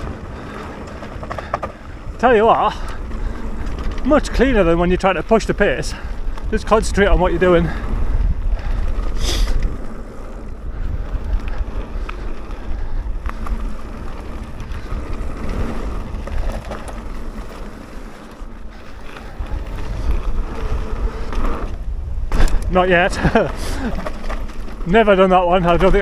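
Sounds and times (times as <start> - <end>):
bike clicks and rattles: 0.0 - 26.0
tyres rumbling over dirt: 0.0 - 26.0
wind buffeting microphone: 0.0 - 26.0.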